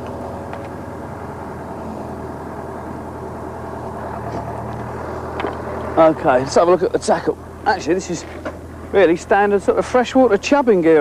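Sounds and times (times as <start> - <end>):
crane engine droning: 0.0 - 11.0.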